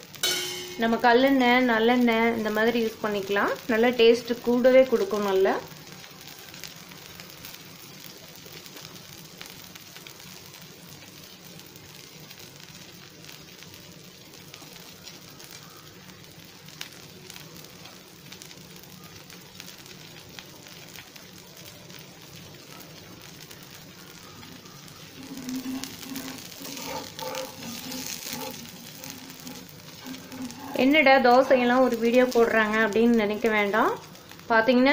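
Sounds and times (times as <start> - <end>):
batter sizzling in oil: 0.0 - 34.9.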